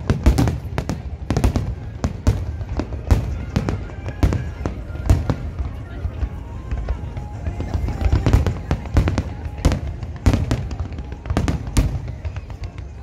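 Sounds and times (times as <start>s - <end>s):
firework bangs and crackling: 0.0s - 13.0s.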